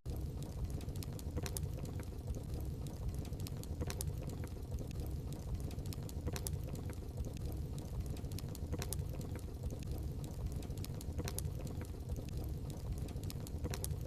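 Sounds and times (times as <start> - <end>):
fire crackles and pops: 0.1 - 14.0
fireplace flames rumbling: 0.1 - 14.0.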